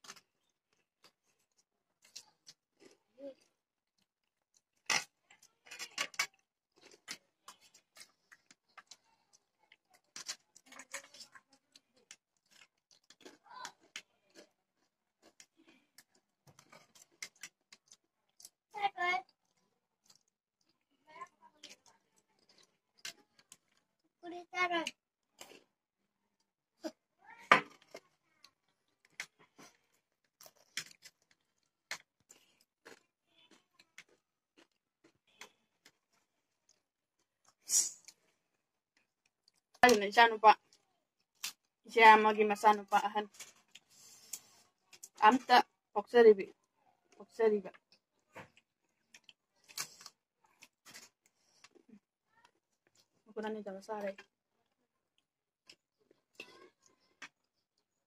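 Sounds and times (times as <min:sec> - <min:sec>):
crunching and chewing chips: 0:00.0 - 0:24.2, 0:24.8 - 0:39.8, 0:40.6 - 0:41.9, 0:43.3 - 0:45.9, 0:47.7 - 0:53.3, 0:54.0 - 0:58.0.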